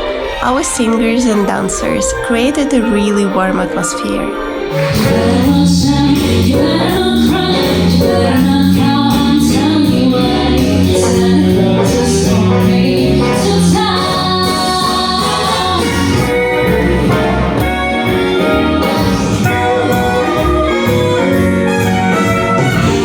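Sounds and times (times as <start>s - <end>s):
singers with band: 0.0s - 23.0s
woman singing: 0.4s - 20.8s.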